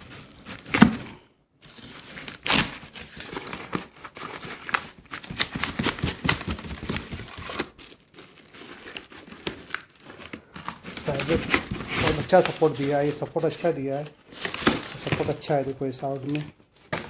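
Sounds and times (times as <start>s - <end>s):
packaging rustling and tearing: 0.0s - 17.0s.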